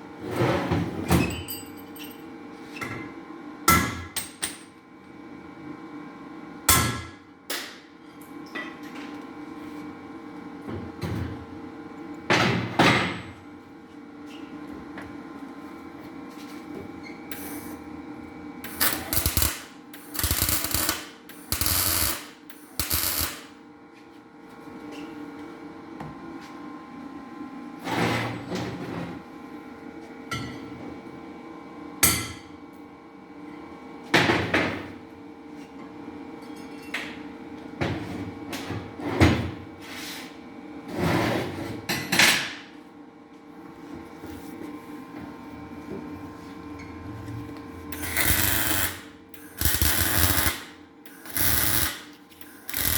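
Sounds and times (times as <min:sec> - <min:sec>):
steady shop hum: 0:00.0 - 0:52.9.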